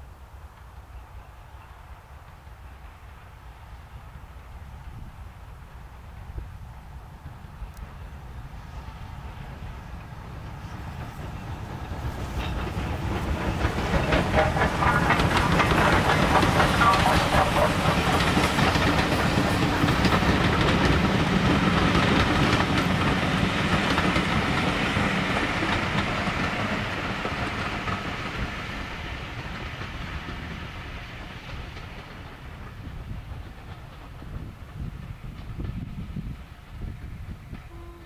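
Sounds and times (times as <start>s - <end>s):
steam train rumbling past: 0.0s - 38.0s.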